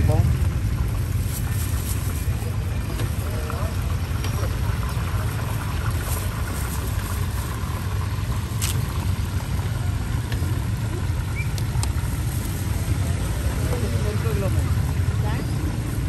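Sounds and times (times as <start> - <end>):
street ambience rumble: 0.0 - 16.0.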